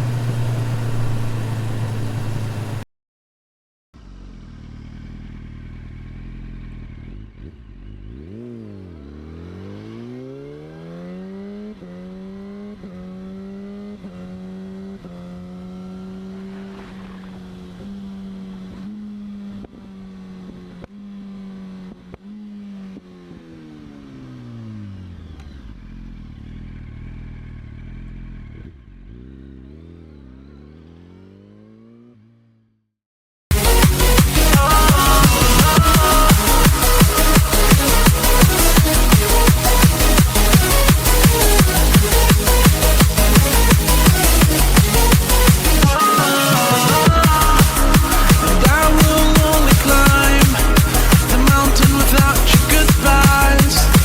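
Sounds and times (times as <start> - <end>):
motorcycle engine revving: 0.0 - 2.8, 4.0 - 32.9, 33.5 - 54.0.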